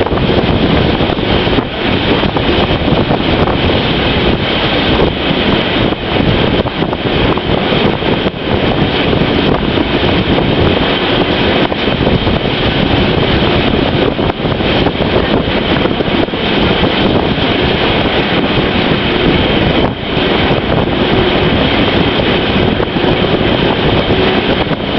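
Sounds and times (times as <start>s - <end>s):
moving train running: 0.0s - 24.9s
wind on microphone: 0.0s - 24.9s.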